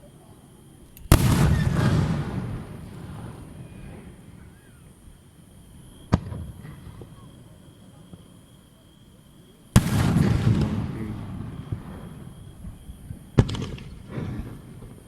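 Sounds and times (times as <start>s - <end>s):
fireworks rumble and crackle: 0.0s - 15.0s
fireworks exploding: 1.0s - 8.4s, 9.7s - 15.0s.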